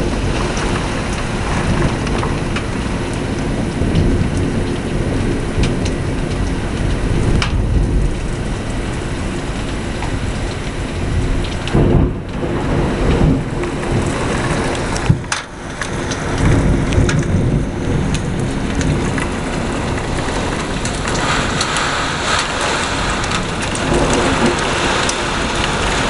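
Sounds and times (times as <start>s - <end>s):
heavy rain pouring: 0.0s - 26.0s
low rumble of thunder: 0.0s - 26.0s
raindrops tapping a surface: 0.0s - 26.0s.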